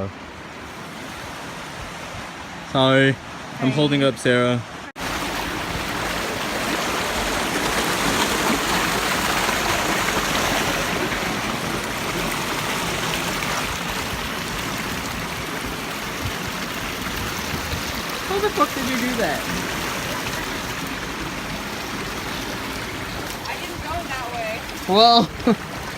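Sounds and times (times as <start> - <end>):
waterfall rushing over rock: 5.0 - 25.9.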